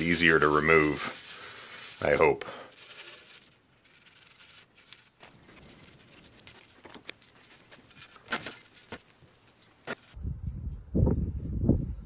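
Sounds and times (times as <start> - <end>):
hands rubbing paste: 0.0 - 10.1.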